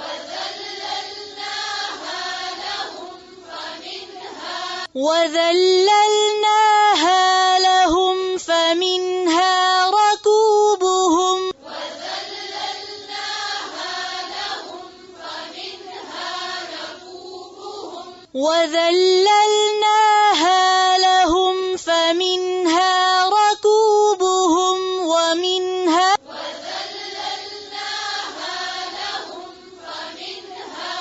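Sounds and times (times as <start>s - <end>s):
woman reciting melodically: 0.0s - 31.0s.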